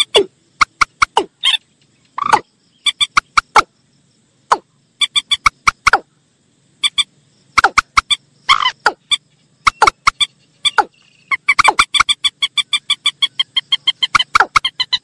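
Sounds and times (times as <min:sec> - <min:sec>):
recorded bird clucking calls: 0:00.0 - 0:03.7, 0:04.5 - 0:06.1, 0:06.8 - 0:15.0
faint steady hum: 0:00.0 - 0:15.0.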